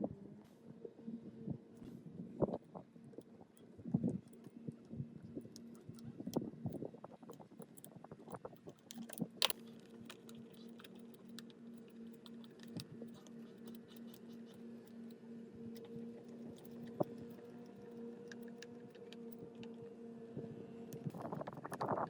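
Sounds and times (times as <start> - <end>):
faint pulsing hum: 0.0 - 22.0.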